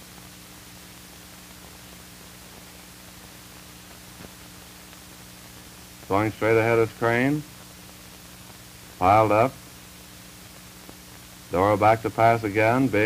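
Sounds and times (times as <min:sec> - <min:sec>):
steady hiss with low hum: 0:00.0 - 0:13.0.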